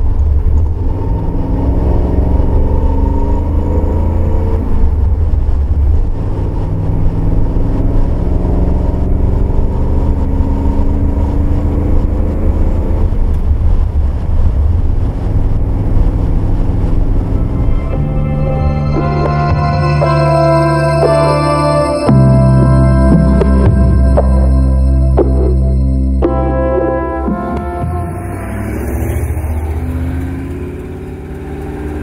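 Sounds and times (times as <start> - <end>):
car engine cruising: 0.0 - 32.0
wind and road noise rumble: 0.0 - 32.0.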